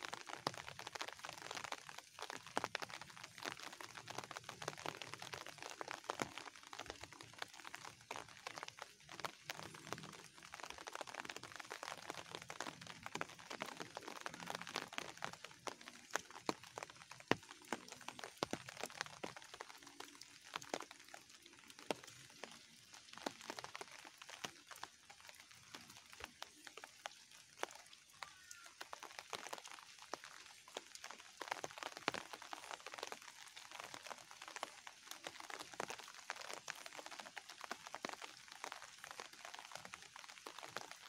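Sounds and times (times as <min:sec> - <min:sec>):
light rain on leaves: 0:00.0 - 0:41.0.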